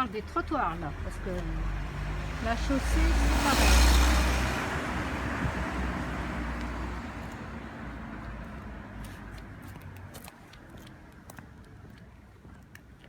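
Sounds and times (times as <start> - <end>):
passing car road noise: 0.0 - 11.2.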